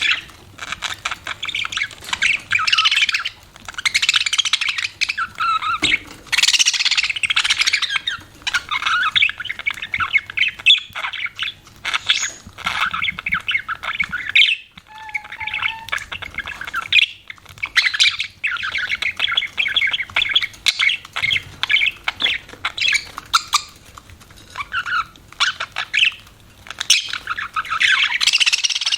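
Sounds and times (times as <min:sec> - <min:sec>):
budgies chattering and chirping: 0:00.0 - 0:28.9.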